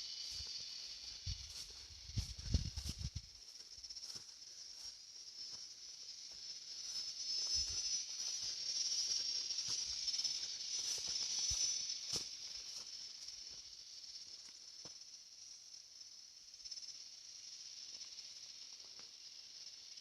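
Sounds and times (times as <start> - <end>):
high-pitched insect buzz: 0.0 - 20.0.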